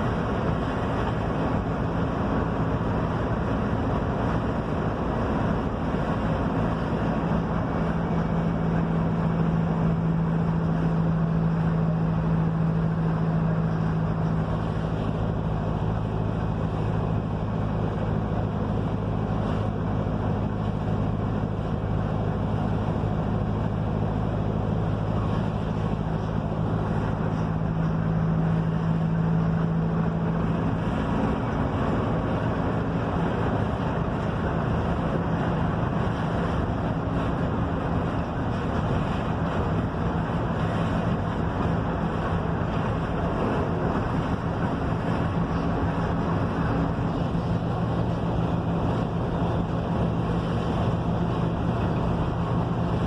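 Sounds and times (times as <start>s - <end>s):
bus diesel engine running: 0.0s - 53.0s
road and wind noise: 0.0s - 53.0s.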